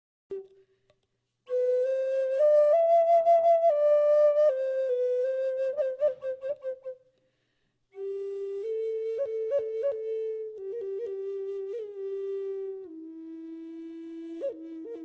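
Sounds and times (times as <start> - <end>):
solo flute melody: 0.3 - 0.8, 1.5 - 7.2, 7.9 - 15.0.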